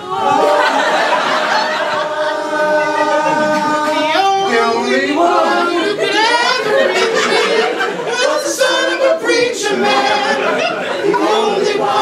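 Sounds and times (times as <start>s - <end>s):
group singing a cappella: 0.0s - 12.0s.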